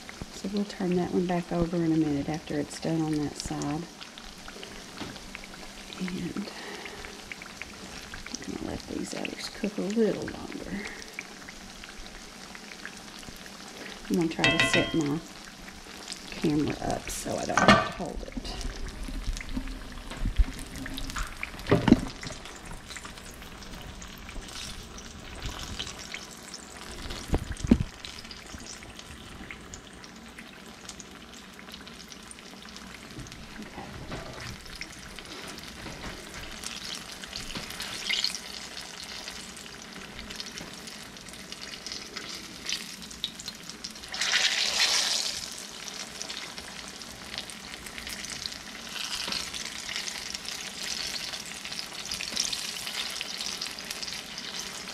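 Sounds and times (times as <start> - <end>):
pies frying in hot grease: 0.0 - 54.9.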